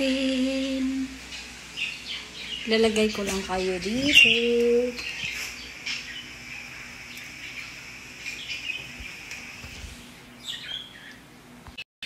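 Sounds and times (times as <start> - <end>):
birds chirping: 0.0 - 11.8
faint steady hum: 0.0 - 11.8.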